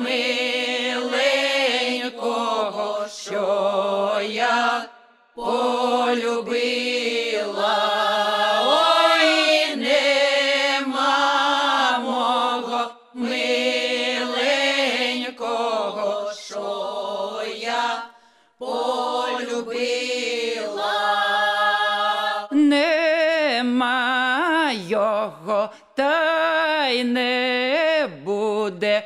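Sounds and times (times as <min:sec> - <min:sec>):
women singing a cappella: 0:00.0 - 0:29.0.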